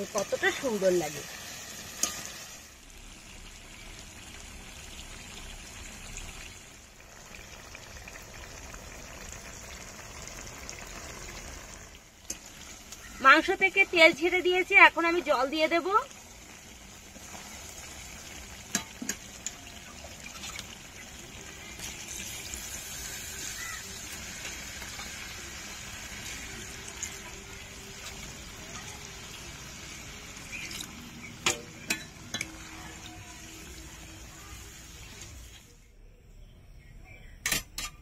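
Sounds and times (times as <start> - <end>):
curry sizzling in a pan: 0.0 - 35.8.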